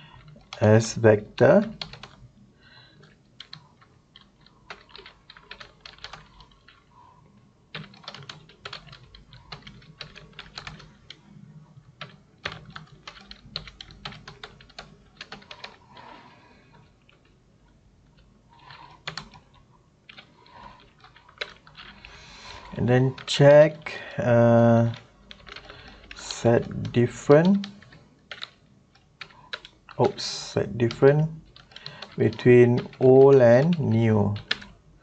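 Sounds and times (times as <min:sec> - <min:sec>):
computer keyboard typing: 0:01.4 - 0:02.2, 0:03.0 - 0:06.9, 0:07.7 - 0:11.2, 0:12.0 - 0:17.3, 0:18.2 - 0:23.3, 0:24.6 - 0:34.8.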